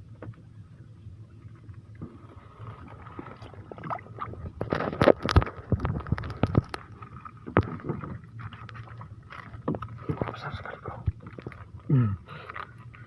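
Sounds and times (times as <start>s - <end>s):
background hum: 0.0s - 13.0s
water splashes: 1.5s - 13.0s.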